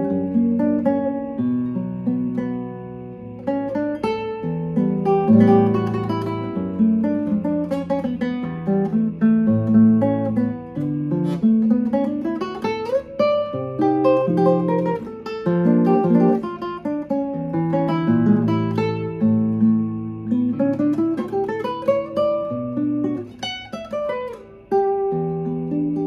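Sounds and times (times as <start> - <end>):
classical guitar played fingerstyle: 0.0 - 26.0.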